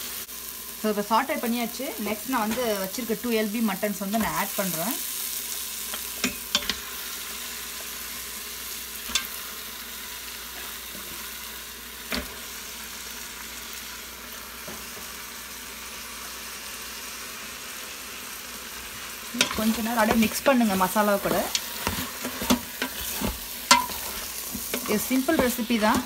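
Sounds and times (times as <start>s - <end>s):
masala sizzling: 0.0s - 26.0s.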